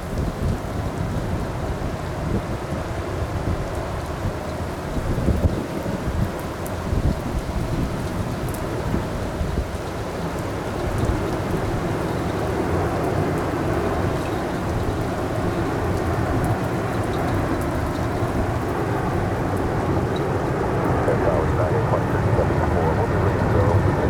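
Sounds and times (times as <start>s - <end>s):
wind rumbling on microphone: 0.0s - 10.0s, 10.7s - 24.0s
heavy rain pouring: 4.7s - 24.0s.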